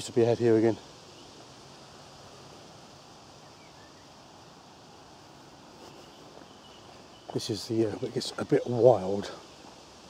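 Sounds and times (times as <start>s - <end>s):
faint bird chirps: 0.0s - 9.7s
light wind hiss: 0.0s - 10.0s.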